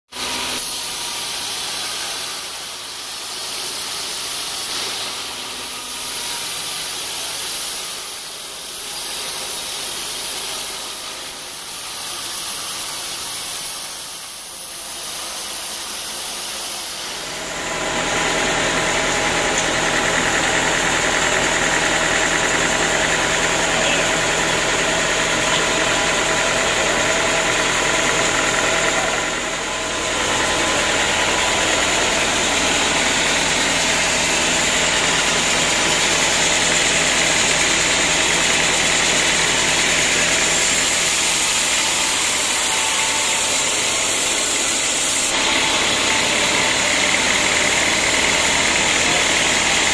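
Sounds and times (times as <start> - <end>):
band sawmill drone with hiss: 0.2 - 49.9.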